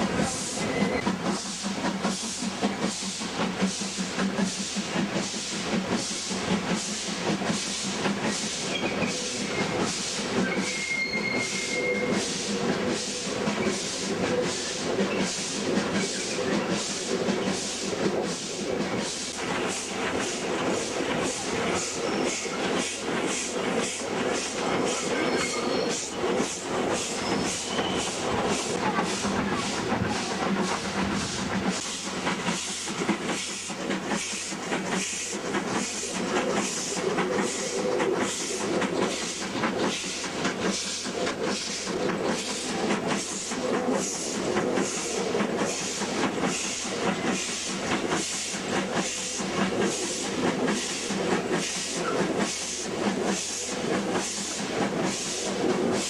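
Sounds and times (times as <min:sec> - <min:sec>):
rail noise: 0:00.0 - 0:56.0
steam hiss: 0:00.0 - 0:56.0
steam locomotive chuffing: 0:00.0 - 0:56.0.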